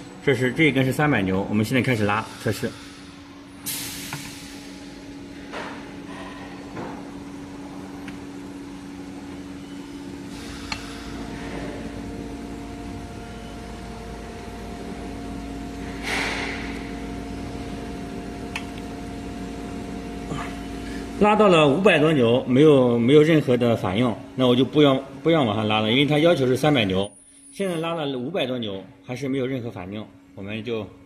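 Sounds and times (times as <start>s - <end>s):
deeper hum: 0.0s - 28.4s
steady mechanical hum: 0.0s - 31.0s.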